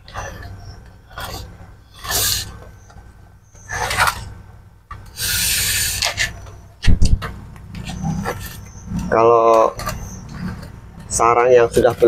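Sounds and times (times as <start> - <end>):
cage tray scraping: 0.0 - 2.9, 3.6 - 6.6, 7.2 - 12.0.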